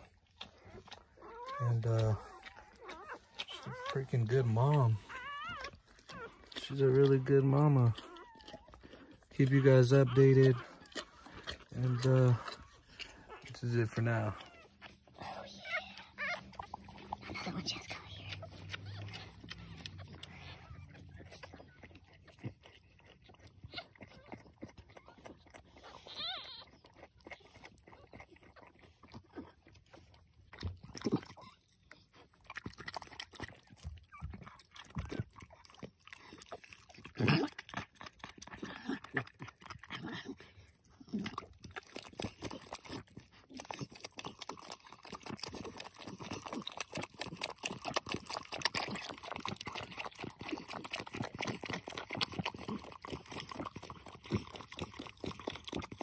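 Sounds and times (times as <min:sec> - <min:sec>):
dog licking and slurping: 0:00.0 - 0:56.0.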